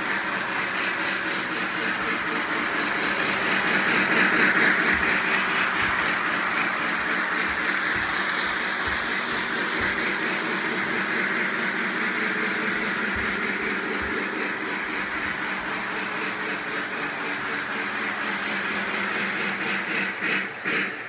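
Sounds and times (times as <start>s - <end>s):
model train wheels rumbling: 0.0s - 21.0s
motor hum: 0.0s - 21.0s.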